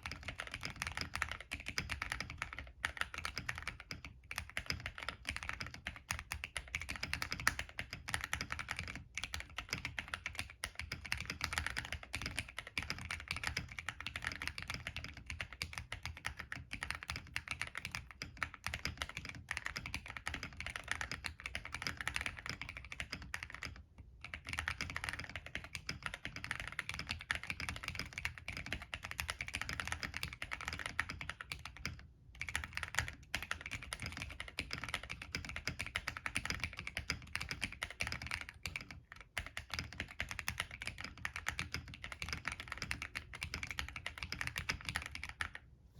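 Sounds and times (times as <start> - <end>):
mechanical keyboard typing: 0.0 - 45.6.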